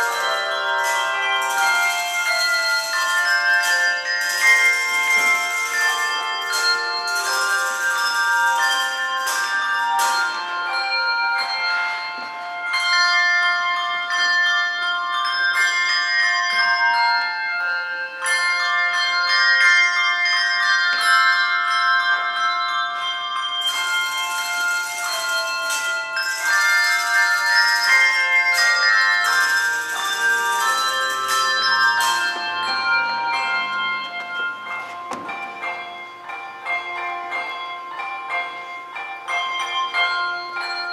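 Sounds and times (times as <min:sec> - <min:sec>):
handbell choir playing: 0:00.0 - 0:40.9.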